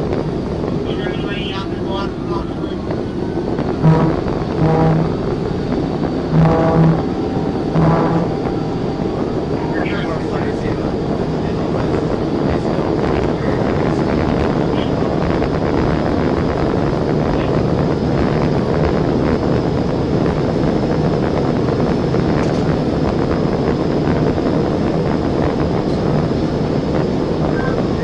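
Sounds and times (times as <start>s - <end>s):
car wind and road noise: 0.0s - 28.0s.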